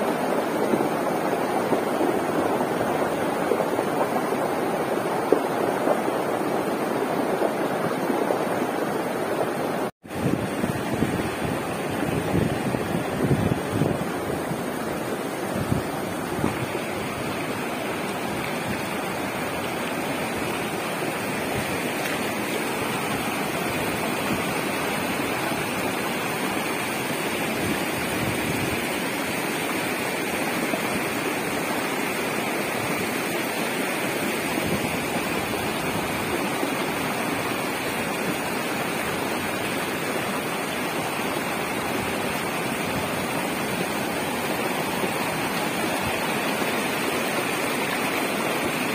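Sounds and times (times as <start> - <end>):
rushing flood water: 0.0 - 48.9.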